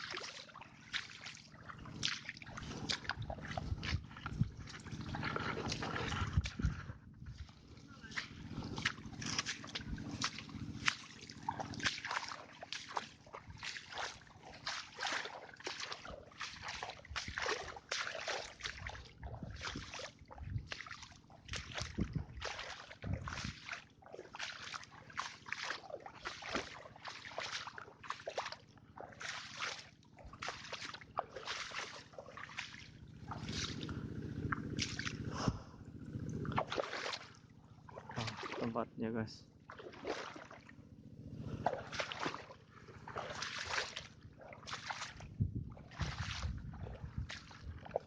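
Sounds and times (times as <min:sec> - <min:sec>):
water sloshing and splashing: 0:00.0 - 0:48.0.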